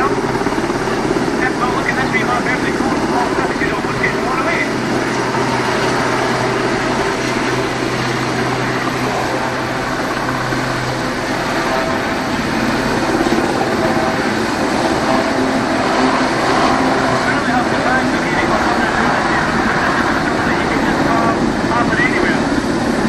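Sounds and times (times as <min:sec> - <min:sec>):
helicopter engine and rotor: 0:00.0 - 0:23.0.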